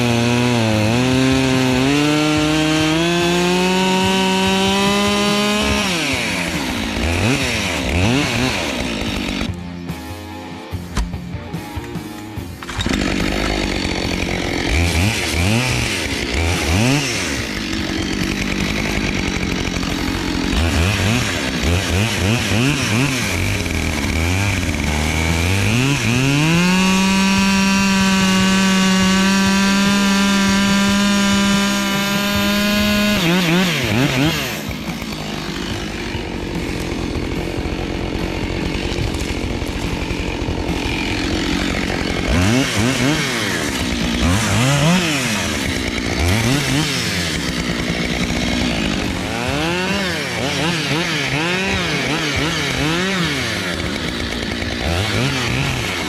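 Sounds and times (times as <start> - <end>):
chainsaw engine revving: 0.0 - 10.0, 10.7 - 56.0.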